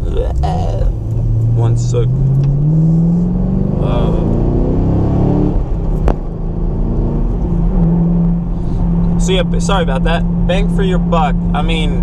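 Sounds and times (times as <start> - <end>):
car engine and exhaust accelerating: 0.0 - 12.0.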